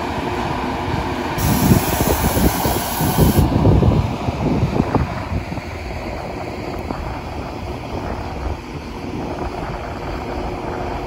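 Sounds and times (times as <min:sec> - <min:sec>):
train wheels rumbling on rails: 0:00.0 - 0:11.0
wind buffeting microphone: 0:00.1 - 0:11.0.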